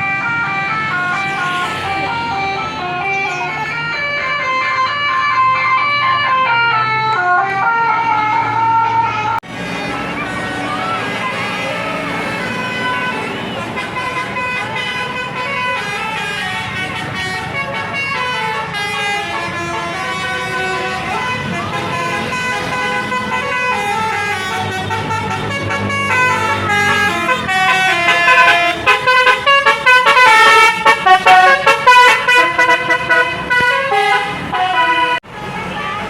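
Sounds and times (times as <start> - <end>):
multi-tone bus horn melody: 0.0 - 36.0.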